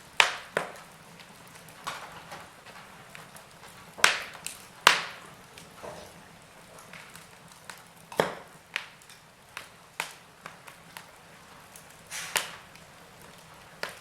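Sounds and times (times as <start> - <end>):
faint steady hiss: 0.0 - 14.0
logs crackling in a fireplace: 0.0 - 14.0.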